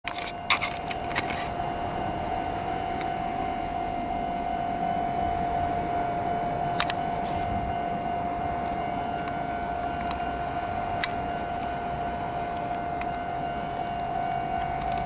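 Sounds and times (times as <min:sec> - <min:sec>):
level-crossing warning alarm: 0:00.0 - 0:15.0.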